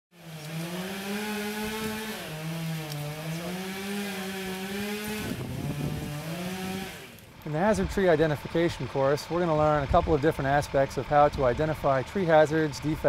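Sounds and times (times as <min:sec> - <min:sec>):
chainsaw running at high revs: 0:00.1 - 0:13.0.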